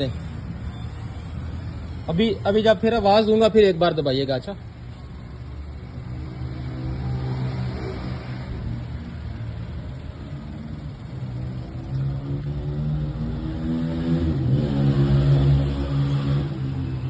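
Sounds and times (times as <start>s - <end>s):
engine running with low hum: 0.0s - 17.0s.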